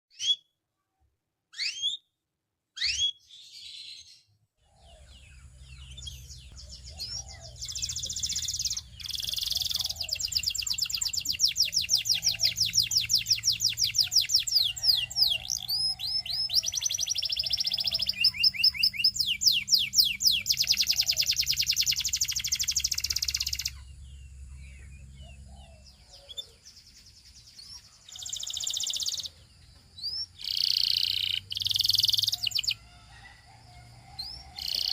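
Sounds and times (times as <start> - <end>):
canary singing trills: 1.5 - 2.1, 2.8 - 34.9.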